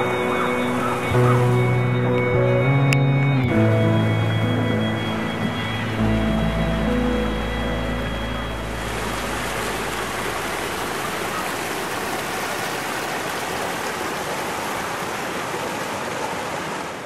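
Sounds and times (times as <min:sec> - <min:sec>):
waterfall rushing: 0:00.0 - 0:02.5, 0:03.4 - 0:17.0.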